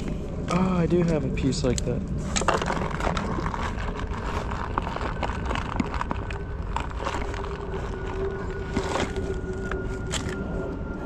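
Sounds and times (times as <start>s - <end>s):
faint steady hum: 0.0s - 11.0s
steady outdoor rushing noise: 0.0s - 11.0s.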